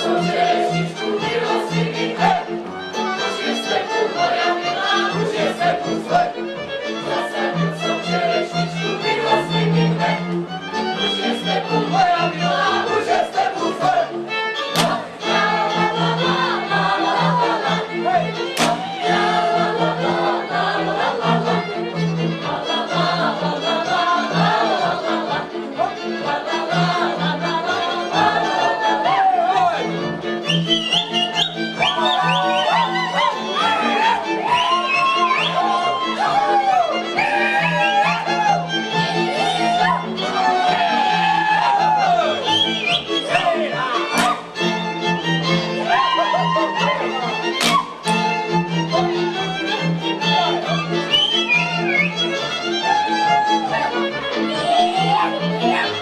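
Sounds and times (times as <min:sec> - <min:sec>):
folk string band with fiddles: 0:00.0 - 0:56.0.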